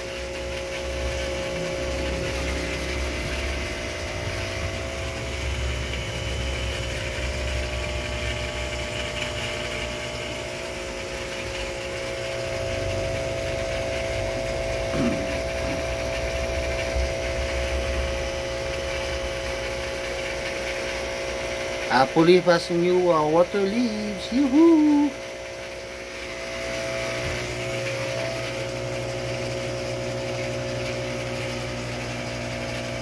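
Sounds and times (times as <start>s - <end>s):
aquarium equipment humming: 0.0s - 33.0s.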